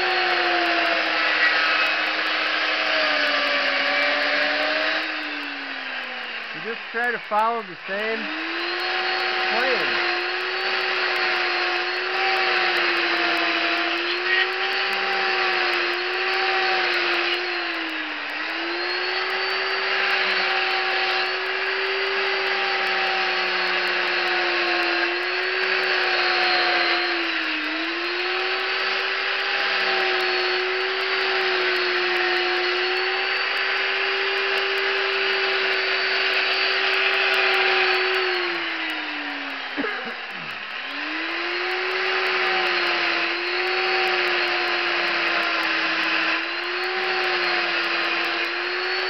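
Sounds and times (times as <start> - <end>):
chainsaw carving wood: 0.0 - 49.0.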